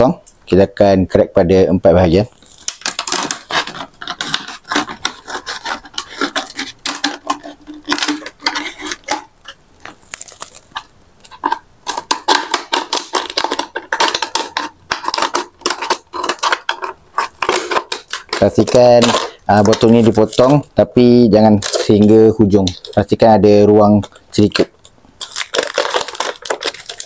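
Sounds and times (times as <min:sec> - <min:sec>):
scissors cutting plastic bottle: 0:02.3 - 0:20.7, 0:21.4 - 0:23.2, 0:24.0 - 0:27.0
plastic bottle crinkling: 0:02.3 - 0:23.3, 0:23.9 - 0:27.0.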